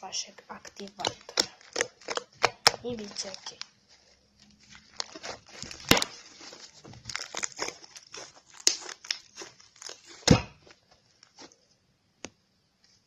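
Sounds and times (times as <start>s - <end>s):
slime crackling and popping: 0.5s - 11.6s.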